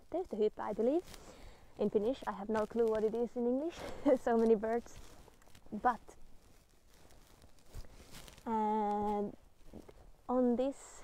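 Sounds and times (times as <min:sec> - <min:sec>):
faint rustling: 0:00.1 - 0:11.0.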